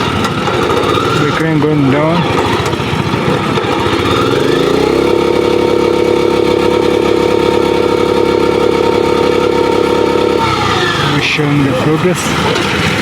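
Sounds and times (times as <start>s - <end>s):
machinery engine revving up: 0.0s - 13.0s.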